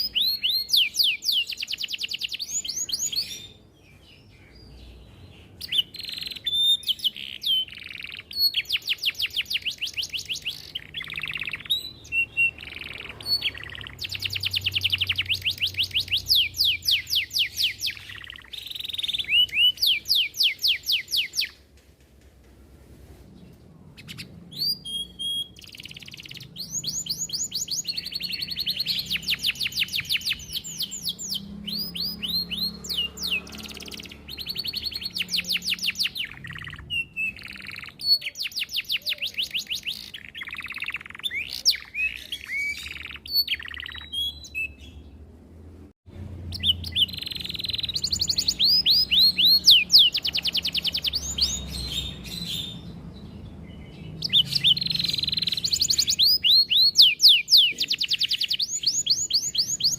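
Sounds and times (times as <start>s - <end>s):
canary singing trills: 0.0s - 21.7s, 23.6s - 45.4s, 46.2s - 59.9s.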